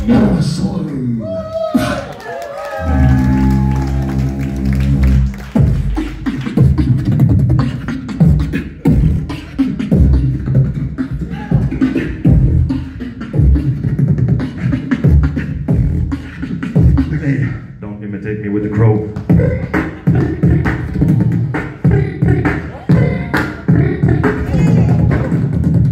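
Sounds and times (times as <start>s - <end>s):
beatboxing rhythmic beat: 0.0s - 2.2s, 2.8s - 25.9s
beatboxing buzzing bass note: 2.9s - 17.6s, 19.1s - 25.9s.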